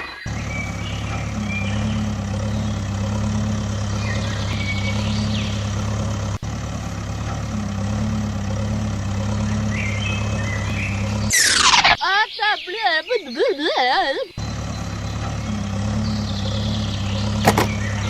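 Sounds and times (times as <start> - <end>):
engine-like drone: 0.0 - 12.1, 14.3 - 18.0.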